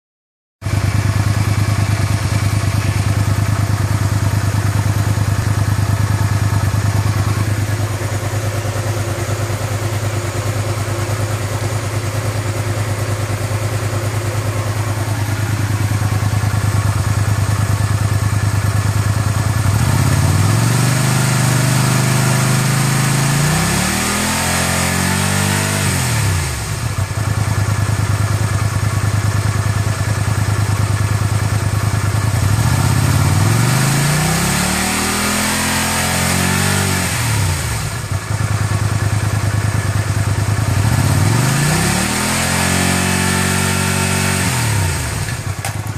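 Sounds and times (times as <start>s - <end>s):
motorcycle engine idling and revving: 0.6s - 45.9s.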